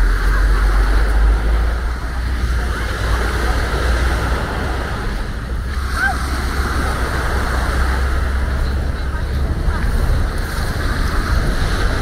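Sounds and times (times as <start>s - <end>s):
waves washing up beach: 0.0s - 12.0s
wind rumbling on microphone: 0.0s - 12.0s.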